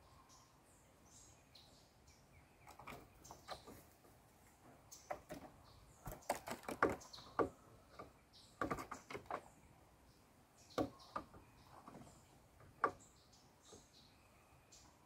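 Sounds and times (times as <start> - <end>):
birds tapping on a roof: 2.4 - 15.0.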